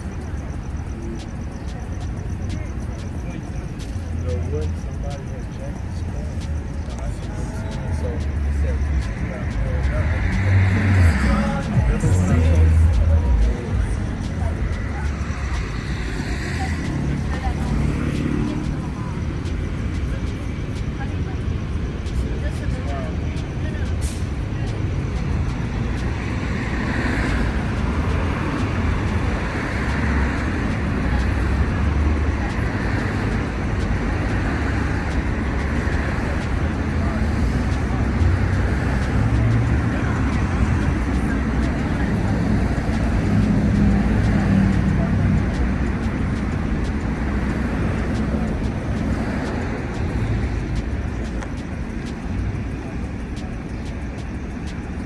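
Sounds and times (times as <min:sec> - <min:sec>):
traffic rumble: 0:00.0 - 0:55.0
vehicles passing: 0:00.0 - 0:55.0.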